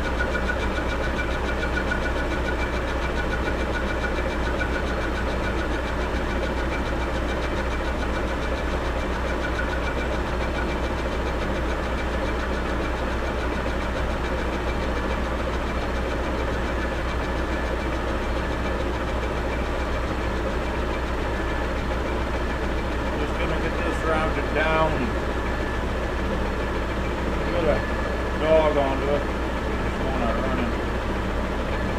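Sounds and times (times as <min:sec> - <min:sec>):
metal lathe humming: 0:00.0 - 0:31.9.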